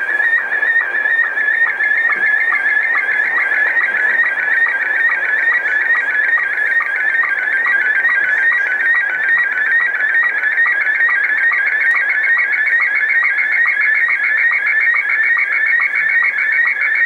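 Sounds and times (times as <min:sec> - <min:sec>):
shortwave static: 0:00.0 - 0:17.0
warbling picture signal tones: 0:00.0 - 0:17.0.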